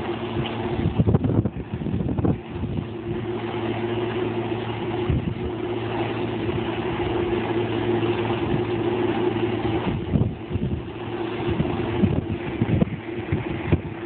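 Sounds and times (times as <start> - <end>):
combine harvester engine hum: 0.0 - 14.0
wind buffeting microphone: 0.0 - 14.0.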